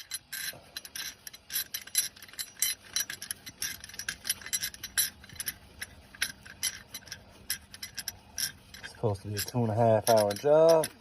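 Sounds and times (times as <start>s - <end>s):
metal hand tools clicking: 0.0s - 11.0s.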